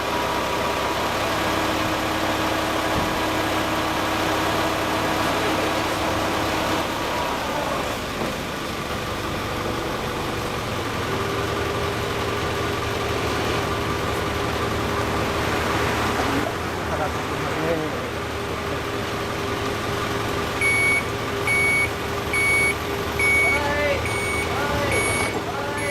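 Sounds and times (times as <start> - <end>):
engine humming steadily: 0.0 - 25.9.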